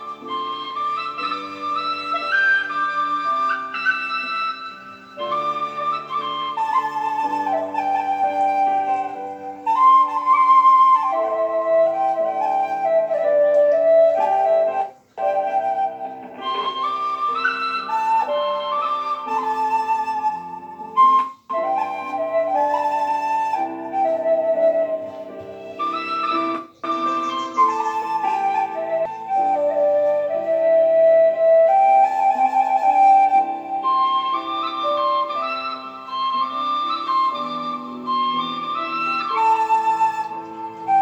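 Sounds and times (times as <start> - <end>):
bamboo flute slow melody: 0.0 - 41.0.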